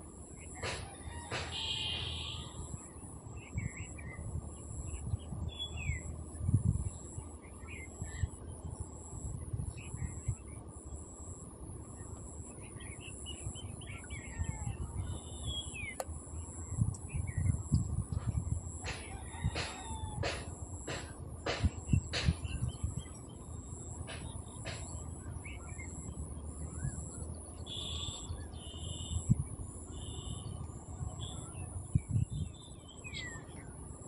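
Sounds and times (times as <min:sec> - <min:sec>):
small birds chirping: 0:00.4 - 0:34.0.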